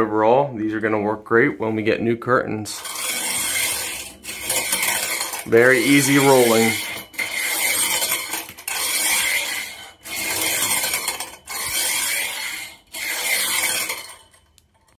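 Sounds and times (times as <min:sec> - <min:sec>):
curtain ring rolling on metal rod: 0:02.7 - 0:15.0.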